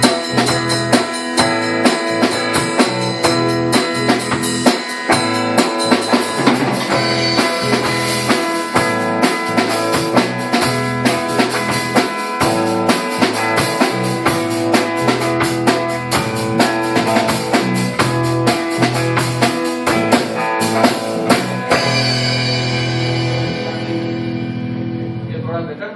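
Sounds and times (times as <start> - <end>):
drum kit beat: 0.0 - 25.3
band playing: 0.0 - 25.8
guitar: 0.0 - 25.9.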